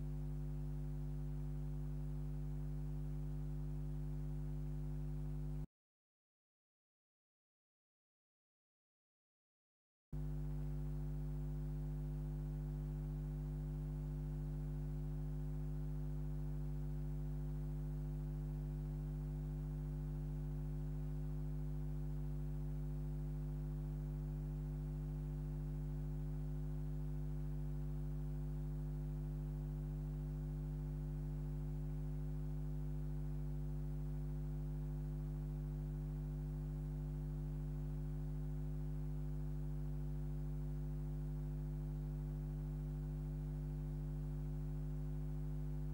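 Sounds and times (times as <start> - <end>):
low electrical hum: 0.0 - 5.7, 10.2 - 45.9.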